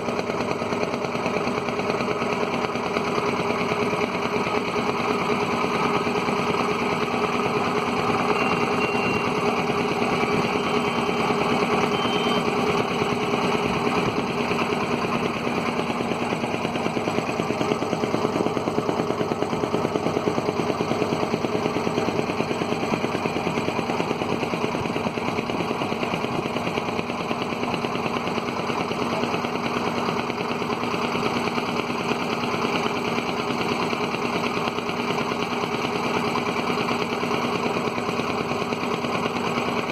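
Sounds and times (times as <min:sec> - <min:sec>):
small boat engine chugging: 0:00.0 - 0:39.9.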